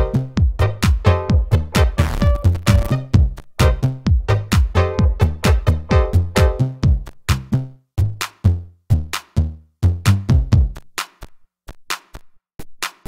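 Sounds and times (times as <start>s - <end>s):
pitched bass line: 0.0s - 10.8s
drum machine beat: 0.0s - 13.0s.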